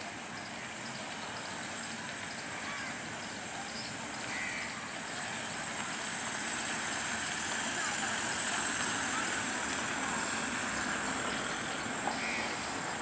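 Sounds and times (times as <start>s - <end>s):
distant diesel locomotive drone: 0.0s - 13.0s.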